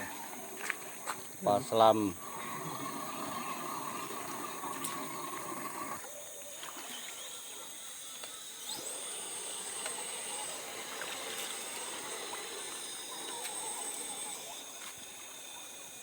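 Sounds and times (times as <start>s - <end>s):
stream water trickling: 0.0s - 16.0s
thin high whine: 0.0s - 16.0s.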